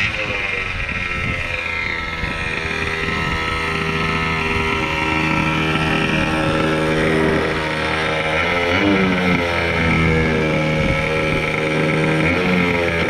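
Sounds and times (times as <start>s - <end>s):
two-stroke rc truck engine: 0.0s - 13.0s.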